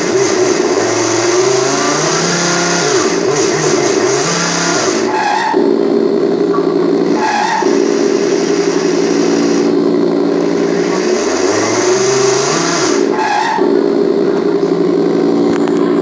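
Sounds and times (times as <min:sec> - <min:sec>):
synthesized car engine drone: 0:00.0 - 0:16.0.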